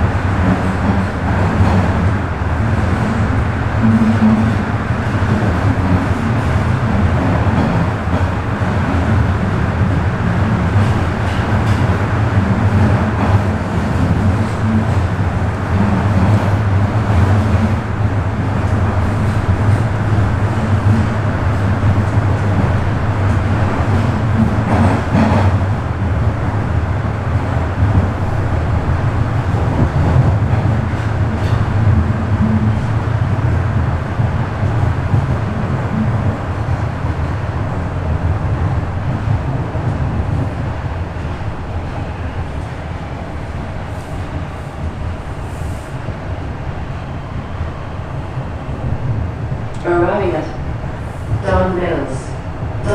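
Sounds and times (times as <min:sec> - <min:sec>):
subway train rumbling: 0:00.0 - 0:52.9.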